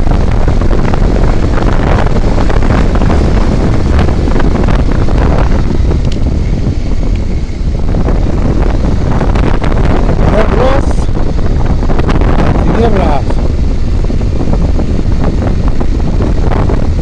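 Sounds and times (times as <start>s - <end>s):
vehicle running noise: 0.0s - 17.0s
wind buffeting microphone: 0.0s - 17.0s.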